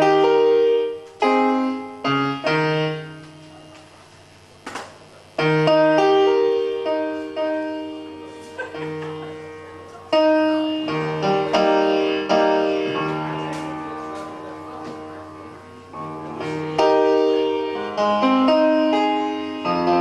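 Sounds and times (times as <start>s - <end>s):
piano-like keyboard chords: 0.0s - 20.0s.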